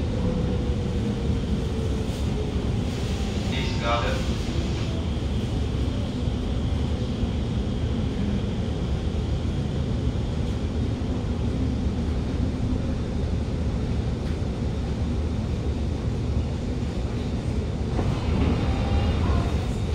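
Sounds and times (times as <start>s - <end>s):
metro train rumble: 0.0s - 19.9s.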